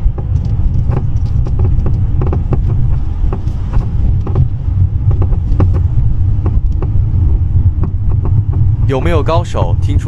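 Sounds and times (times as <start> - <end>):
road rumble: 0.0 - 10.0
suspension knocking clicks: 0.0 - 10.0.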